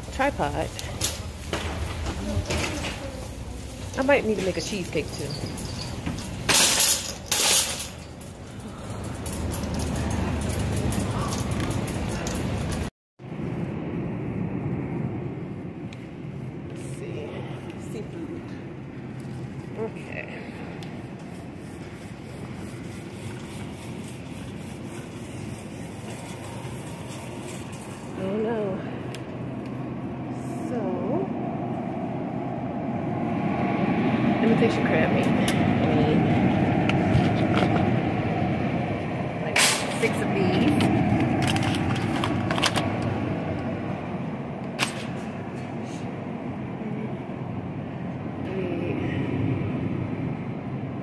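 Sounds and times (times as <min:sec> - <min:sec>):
busy supermarket rumble: 0:00.0 - 0:51.0.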